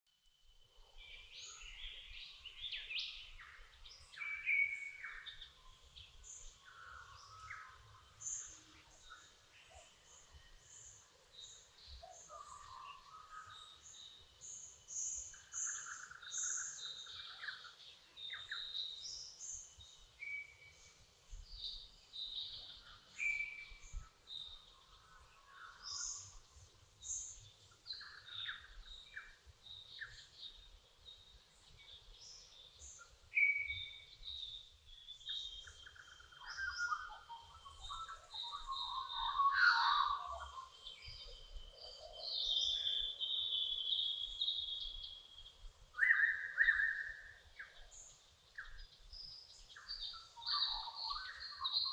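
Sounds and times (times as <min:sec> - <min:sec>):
birds singing and chirping: 0:00.8 - 0:51.9.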